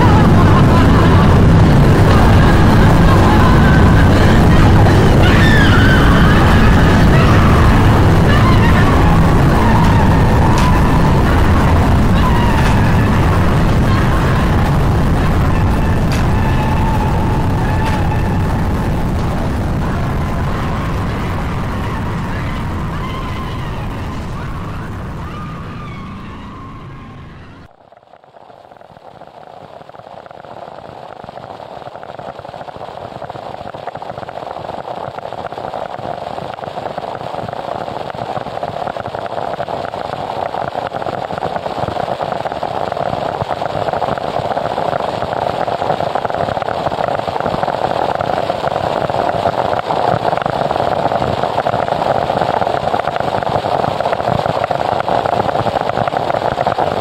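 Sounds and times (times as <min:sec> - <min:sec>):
static with wavering high tones: 0:00.0 - 0:57.0
wall of static noise: 0:00.0 - 0:57.0.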